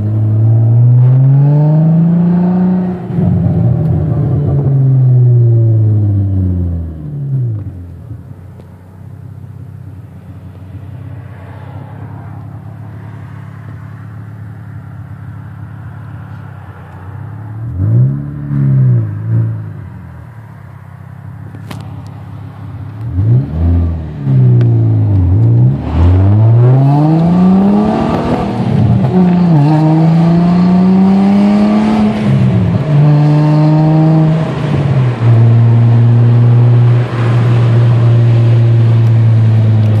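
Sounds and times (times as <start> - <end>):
car engine and exhaust: 0.0 - 40.0.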